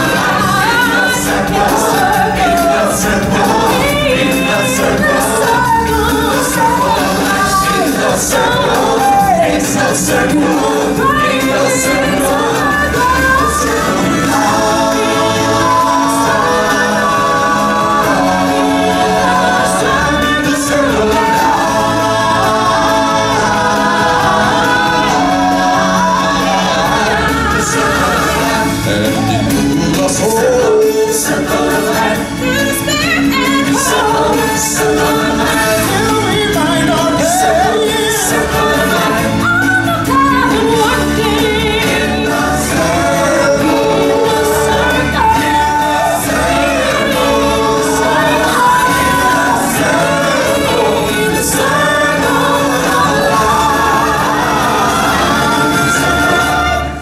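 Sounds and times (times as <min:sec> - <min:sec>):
choir singing: 0:00.0 - 0:57.0
loud musical accompaniment: 0:00.0 - 0:57.0.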